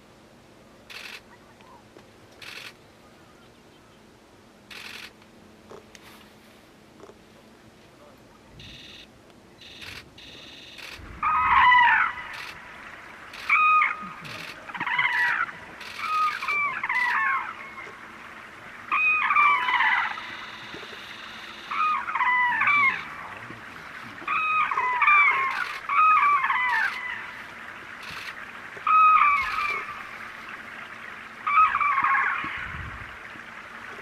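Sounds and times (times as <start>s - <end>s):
cranes calling: 0.9s - 4.0s, 4.6s - 5.2s, 8.6s - 32.8s.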